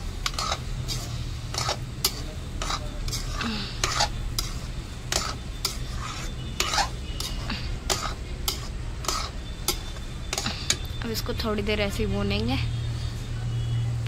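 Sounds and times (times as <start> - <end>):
metal spoon scraping pan: 0.0 - 11.3
ghee sizzling: 0.0 - 14.0.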